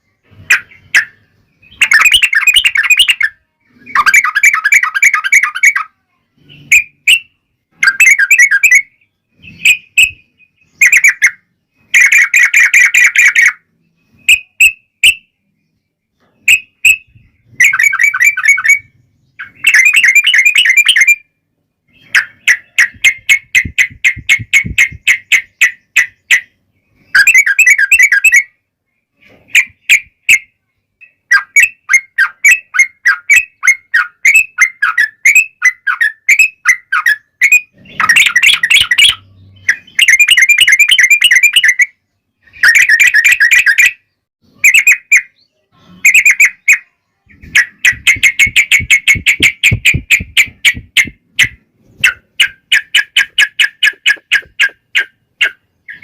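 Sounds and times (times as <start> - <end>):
bulbul chattering song: 0.0 - 28.6, 29.2 - 56.0.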